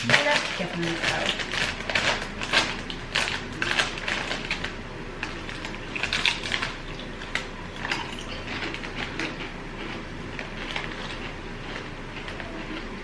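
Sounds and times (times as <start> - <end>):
person crunching potato crisps: 0.0 - 13.0.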